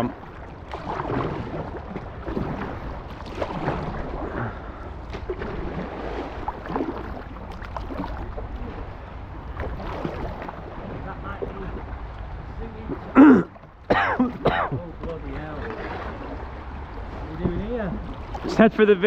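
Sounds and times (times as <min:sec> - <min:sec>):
small splashes: 0:00.0 - 0:18.8
paddle strokes splashing: 0:00.0 - 0:19.0.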